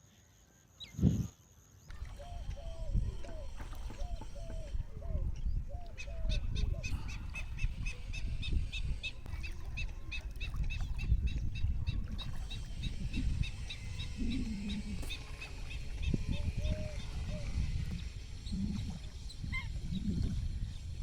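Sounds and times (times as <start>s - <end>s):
birds calling: 1.9s - 21.0s
low rumbling background: 1.9s - 21.0s.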